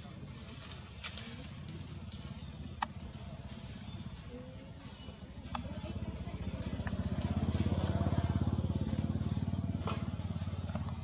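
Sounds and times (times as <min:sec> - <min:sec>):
engine passing by: 0:00.1 - 0:11.0.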